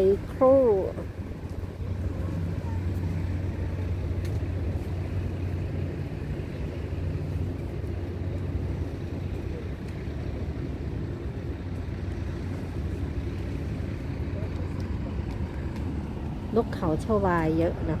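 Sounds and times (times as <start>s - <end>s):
low engine drone: 0.0s - 18.0s
rushing wind: 0.0s - 18.0s.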